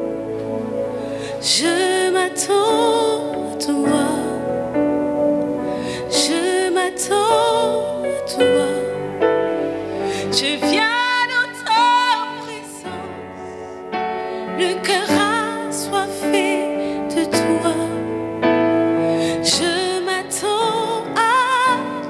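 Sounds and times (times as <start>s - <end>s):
sustained keyboard chords: 0.0s - 22.0s
woman singing worship song: 1.0s - 22.0s.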